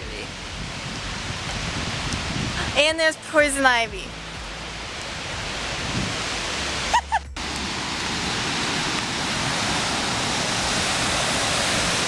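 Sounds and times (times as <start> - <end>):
river water rushing over rapids: 0.0 - 12.0.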